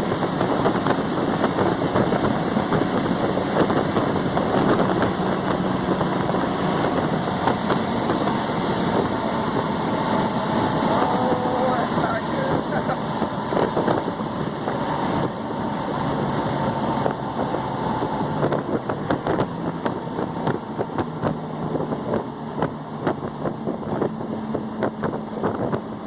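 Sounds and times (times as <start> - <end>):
pickup engine running: 0.0 - 26.0
wind noise: 0.0 - 26.0.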